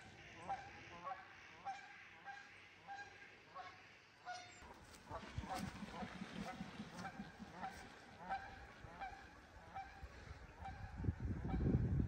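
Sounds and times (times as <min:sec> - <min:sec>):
geese honking: 0:00.0 - 0:11.8.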